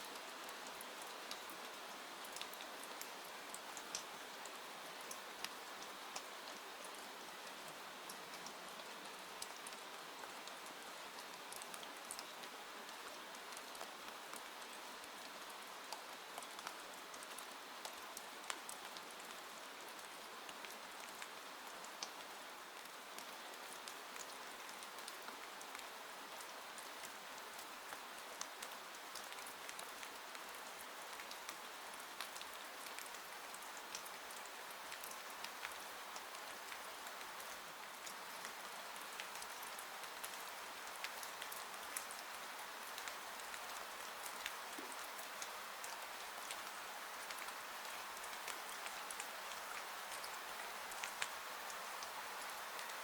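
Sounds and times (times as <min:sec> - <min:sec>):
steady rain hiss: 0:00.0 - 0:53.0
raindrops ticking on a surface: 0:00.1 - 0:53.0.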